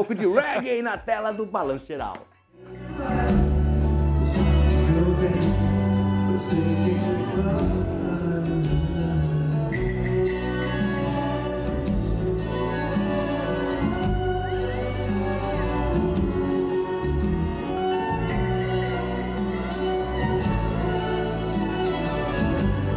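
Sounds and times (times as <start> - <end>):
acoustic guitars: 2.5 - 22.9
person singing: 2.6 - 22.9.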